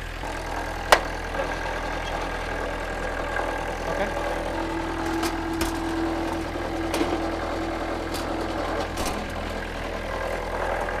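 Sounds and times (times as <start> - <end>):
higher hum: 0.0 - 11.0
sawmill engine running: 0.0 - 11.0.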